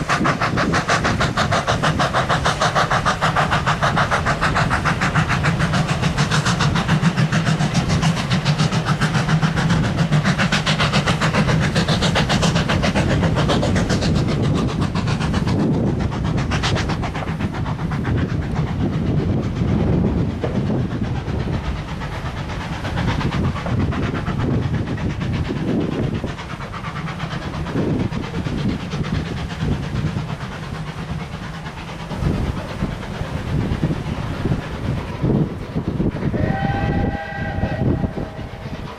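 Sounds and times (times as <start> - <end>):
steam locomotive chuffing: 0.0 - 38.9
train wheels clicking over rail joints: 0.0 - 38.9.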